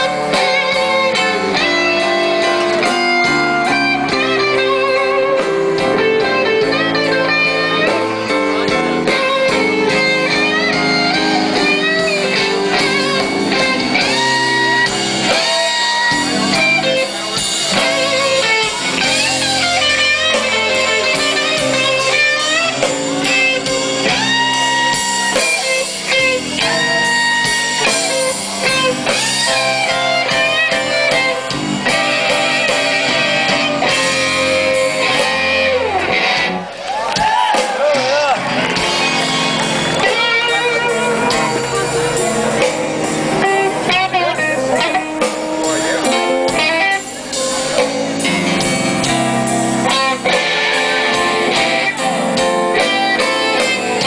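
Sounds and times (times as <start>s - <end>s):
electric guitar: 0.0s - 54.0s
live blues band playing: 0.0s - 54.0s.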